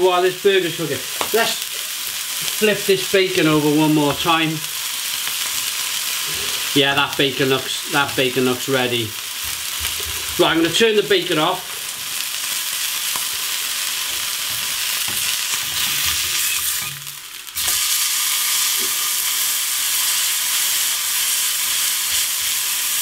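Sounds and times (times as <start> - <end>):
meat sizzling in pans: 0.0 - 23.0.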